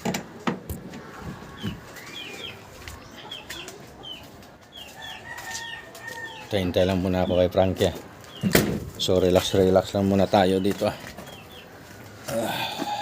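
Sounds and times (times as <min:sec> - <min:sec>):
small birds chirping: 0:01.4 - 0:13.0.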